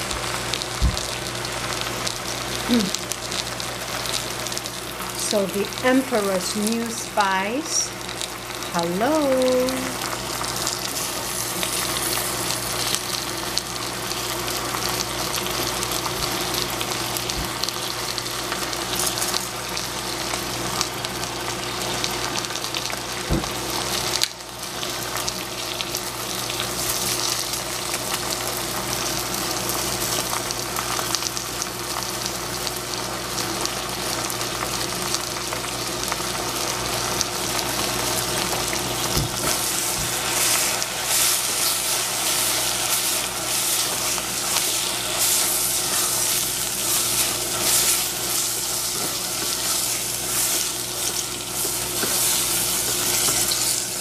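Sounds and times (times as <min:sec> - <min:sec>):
spinach sizzling in oil: 0:00.0 - 0:54.0.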